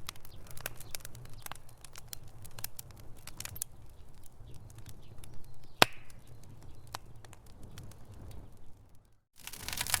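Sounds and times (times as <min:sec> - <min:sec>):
wood fire crackling and popping: 0:00.0 - 0:10.0.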